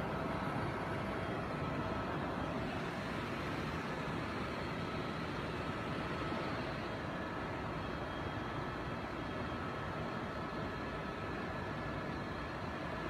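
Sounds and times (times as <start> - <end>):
faint whining tones: 0.0 - 13.0
helicopter engine and rotor: 0.0 - 13.0.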